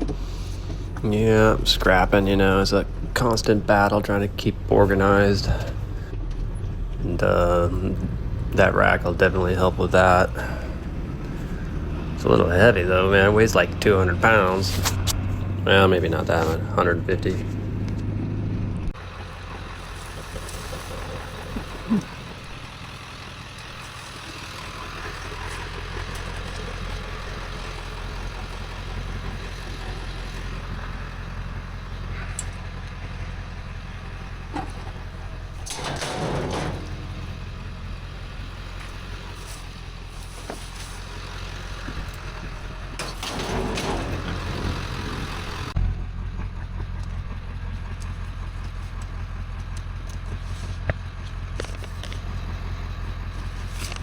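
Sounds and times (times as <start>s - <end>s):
road noise rush: 0.0s - 54.0s
truck engine drone: 0.0s - 54.0s.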